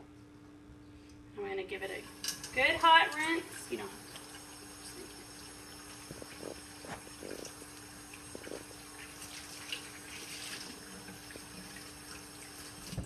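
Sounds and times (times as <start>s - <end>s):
faint steady hum: 0.0s - 13.0s
water running in a steel sink: 1.8s - 13.0s.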